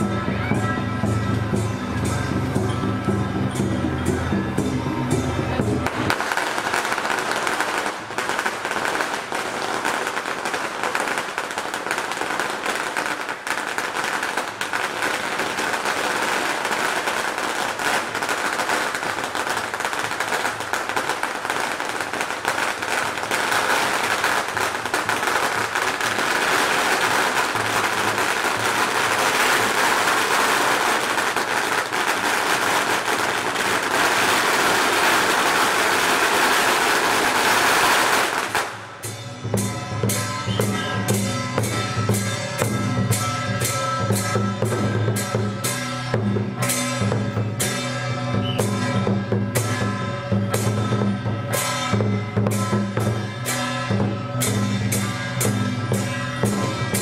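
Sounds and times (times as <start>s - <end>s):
firecrackers going off: 0.0s - 57.0s.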